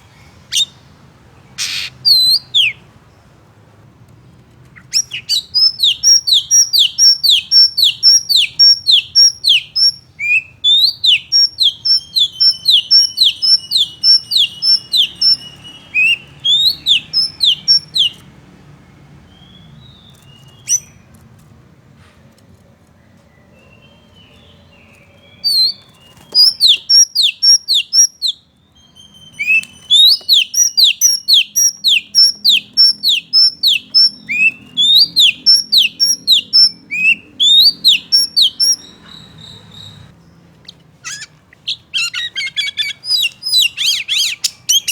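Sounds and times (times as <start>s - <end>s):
bird chirps: 0.0s - 2.9s, 4.6s - 18.3s, 19.2s - 21.2s, 23.0s - 44.9s
bird singing whistles: 0.5s - 0.8s, 1.6s - 2.8s, 4.8s - 18.2s, 19.3s - 21.0s, 23.6s - 44.9s.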